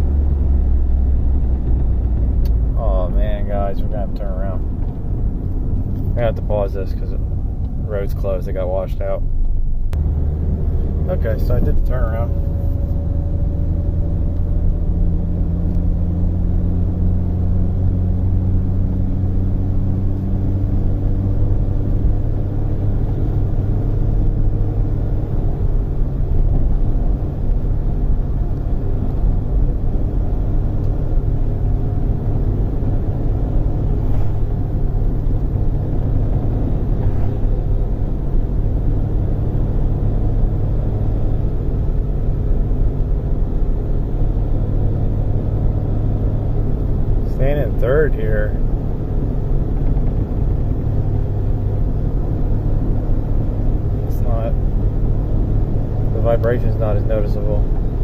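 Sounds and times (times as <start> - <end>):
car engine droning: 0.0 - 58.0
road noise: 0.0 - 58.0.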